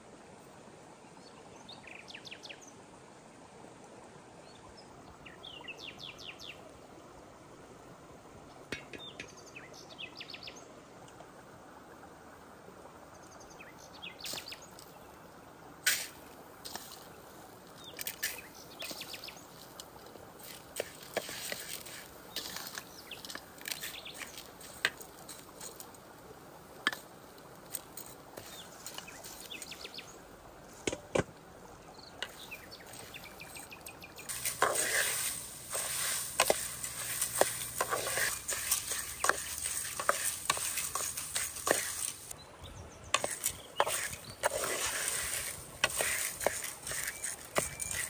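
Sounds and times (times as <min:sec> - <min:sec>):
steady hiss: 0:06.1 - 0:42.4, 0:43.2 - 0:48.0.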